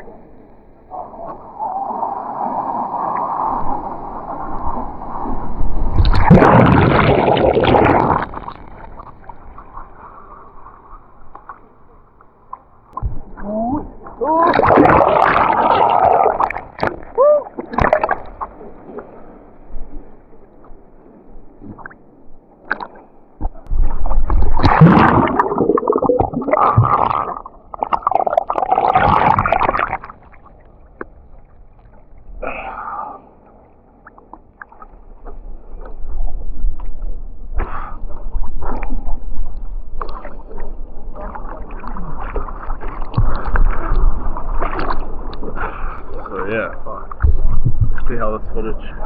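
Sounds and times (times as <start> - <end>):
underwater gurgling and sloshing: 0.0 - 49.0
water churning: 0.0 - 49.0.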